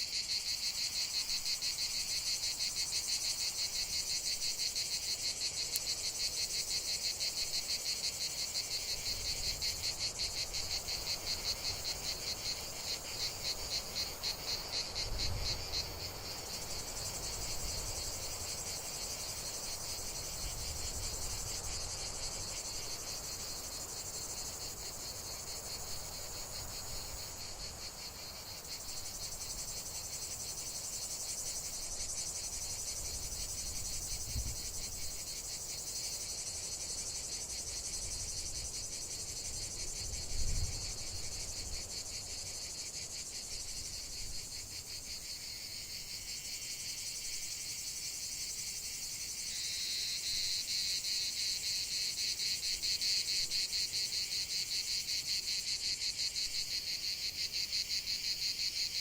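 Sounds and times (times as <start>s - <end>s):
crickets trilling chorus: 0.0s - 59.0s
fast pulsing insect trill: 0.0s - 59.0s.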